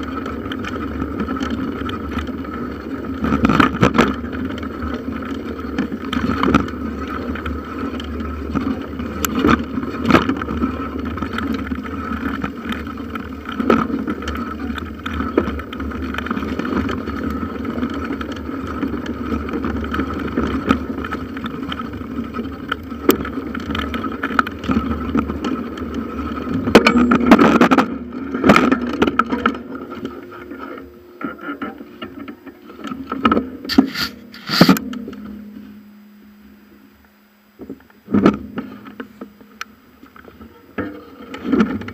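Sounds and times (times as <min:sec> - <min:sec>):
bike knocks and rattles: 0:00.0 - 0:35.8
bicycle tyre and drivetrain noise: 0:00.0 - 0:35.9, 0:36.6 - 0:41.9.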